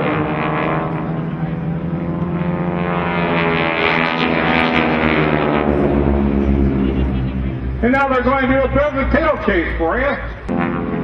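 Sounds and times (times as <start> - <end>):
propeller aircraft droning overhead: 0.0 - 11.0.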